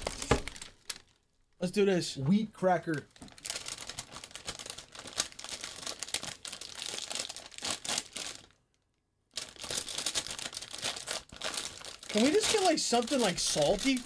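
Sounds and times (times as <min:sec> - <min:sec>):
plastic wrapper crinkling: 0:00.0 - 0:01.6, 0:02.9 - 0:14.0.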